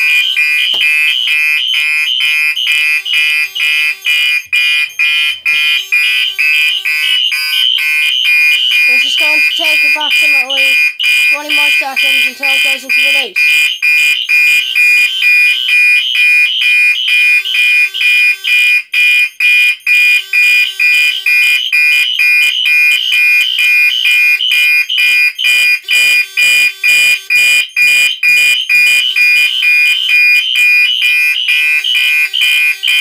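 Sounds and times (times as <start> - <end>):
fire alarm horns pulsing: 0.0 - 33.0.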